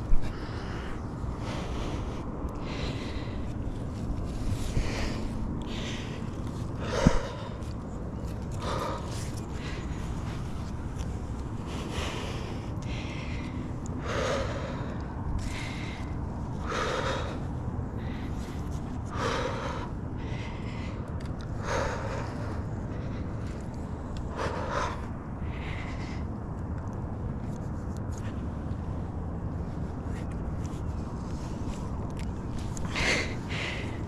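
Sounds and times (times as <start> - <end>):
heavy breathing: 0.0 - 34.0
low rumble: 0.0 - 34.0.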